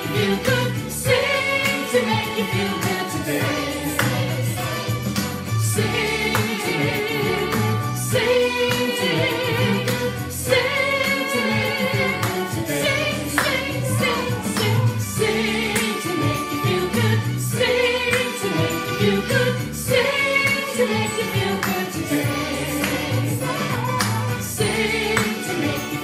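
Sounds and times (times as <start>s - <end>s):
song with singing and beat: 0.0s - 26.0s.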